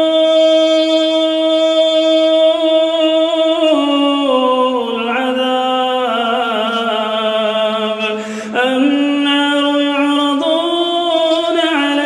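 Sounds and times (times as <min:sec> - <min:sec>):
man reciting in chant: 0:00.0 - 0:12.0.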